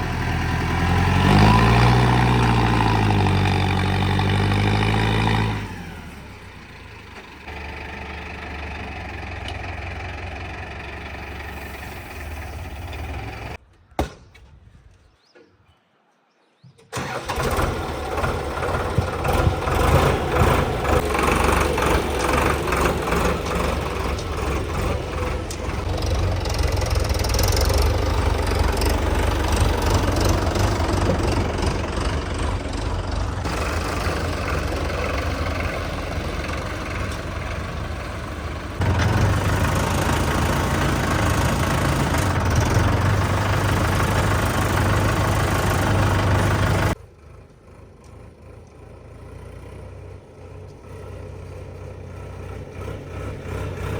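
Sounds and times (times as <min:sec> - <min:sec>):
diesel tractor engine rumbling: 0:00.0 - 0:13.7, 0:16.9 - 0:53.9.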